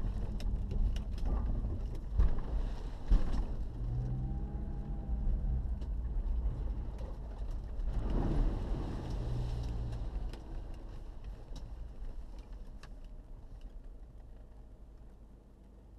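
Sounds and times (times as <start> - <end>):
vehicle ploughing through mud: 0.0 - 13.0
off-road vehicle rumble: 0.0 - 15.9.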